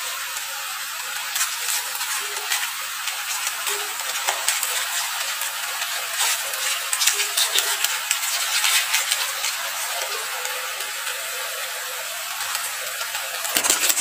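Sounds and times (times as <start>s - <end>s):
noodles sizzling in frying pan: 0.0s - 14.0s.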